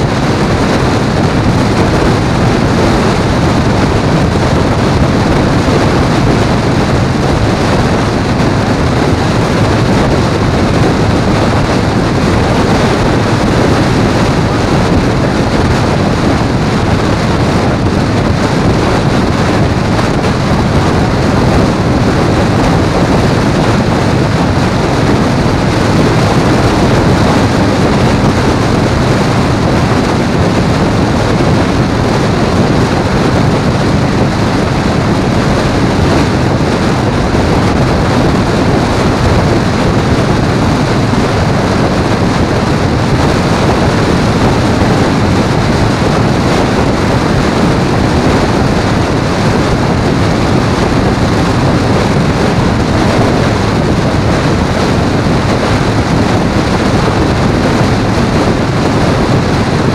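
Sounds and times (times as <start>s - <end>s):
motorcycle engine: 0.0s - 59.9s
road noise: 0.0s - 59.9s
wind buffeting microphone: 0.0s - 59.9s.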